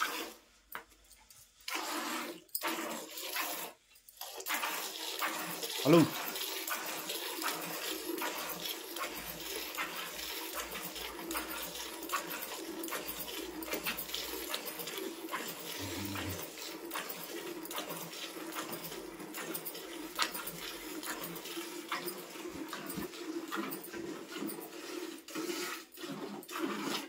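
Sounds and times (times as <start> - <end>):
milk squirting into pail: 1.7 - 27.0.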